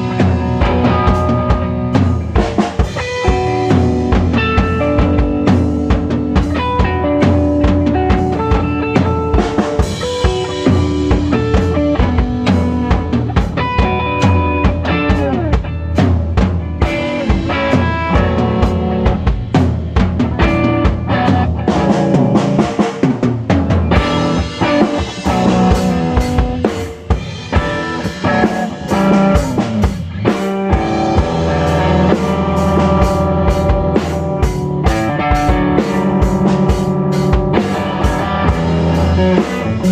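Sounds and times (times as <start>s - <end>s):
drum kit playing: 0.0s - 39.9s
rock band jamming: 0.0s - 39.9s.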